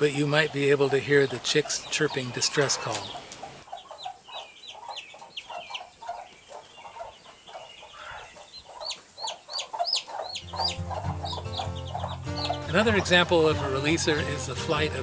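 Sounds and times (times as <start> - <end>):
chickens clucking: 0.0 - 15.0
chick peeping: 0.1 - 13.3.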